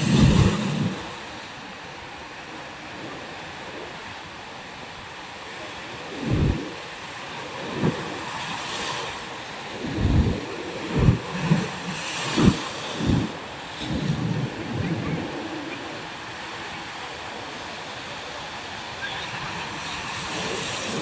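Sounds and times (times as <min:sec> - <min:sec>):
surf washing over rocks: 0:00.0 - 0:21.0
wind rumbling on microphone: 0:00.0 - 0:21.0.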